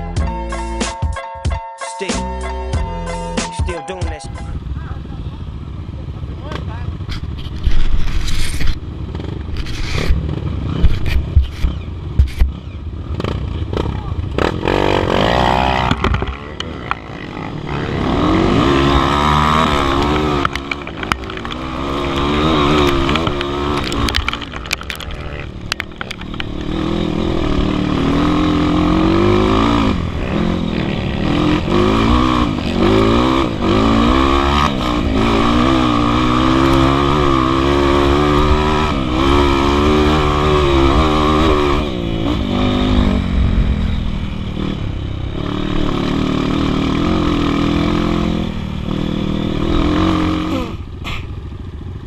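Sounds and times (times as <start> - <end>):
dirt bike engine revving: 4.4 - 52.0.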